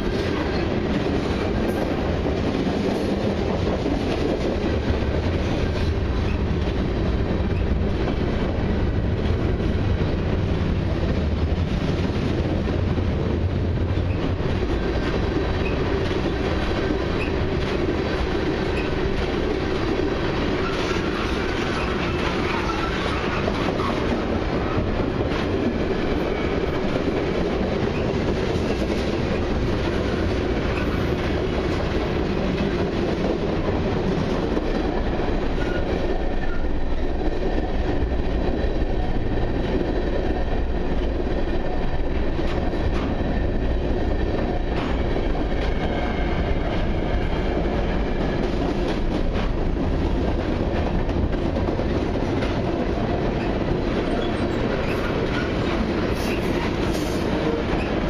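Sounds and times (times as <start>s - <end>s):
clickety-clack over rail joints: 0.0s - 58.0s
freight train wheels rumbling: 0.0s - 58.0s.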